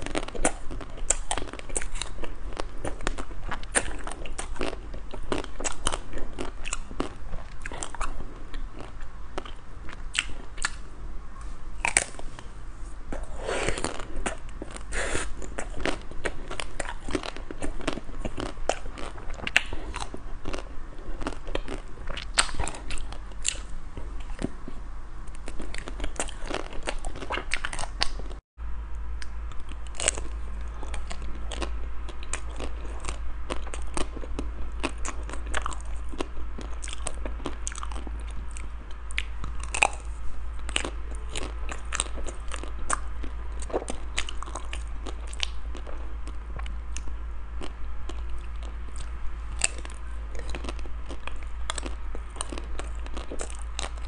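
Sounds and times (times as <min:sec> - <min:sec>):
crunching frozen ice cream: 0:00.0 - 0:10.9, 0:13.1 - 0:28.4, 0:29.2 - 0:54.0
faint low hum: 0:00.0 - 0:54.0.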